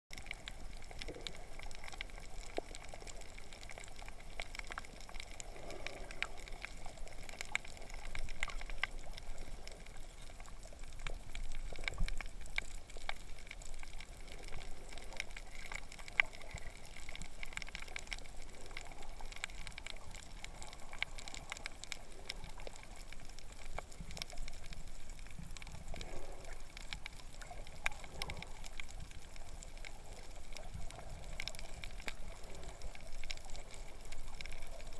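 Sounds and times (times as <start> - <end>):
muffled underwater wash: 0.1 - 34.9
sharp clicks and crackles: 0.1 - 34.9.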